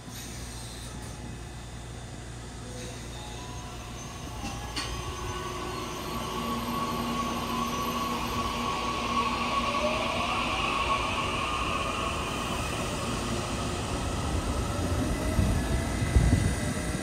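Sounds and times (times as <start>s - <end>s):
electric train motors whining: 0.6s - 16.9s.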